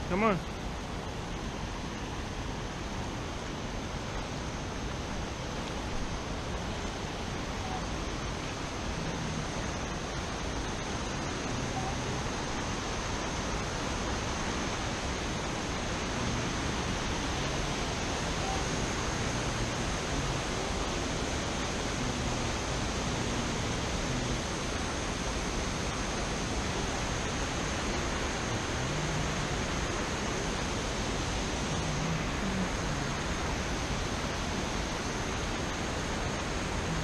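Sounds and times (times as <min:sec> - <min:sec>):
water rushing over waterfall: 0:00.0 - 0:37.0.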